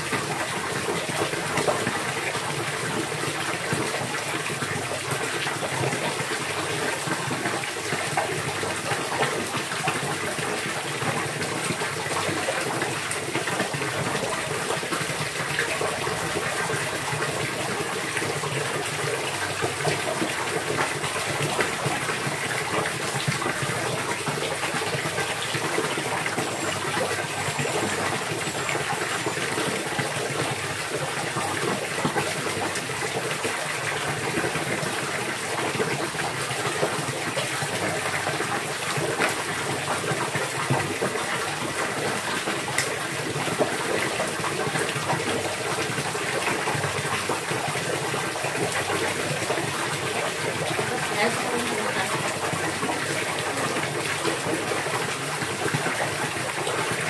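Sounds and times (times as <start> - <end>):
running water gushing: 0.0 - 57.0.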